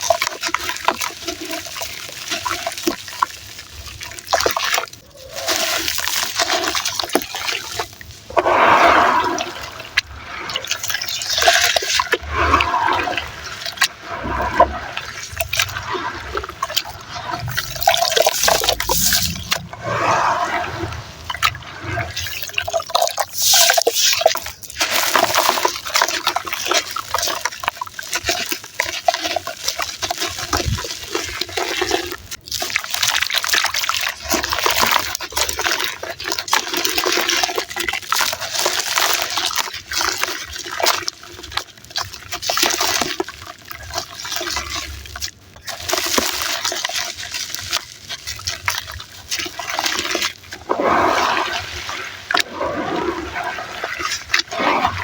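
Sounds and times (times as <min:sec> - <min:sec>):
sand crackling and crunching: 0:00.0 - 0:55.0
wet sloshing and squishing: 0:00.0 - 0:55.0.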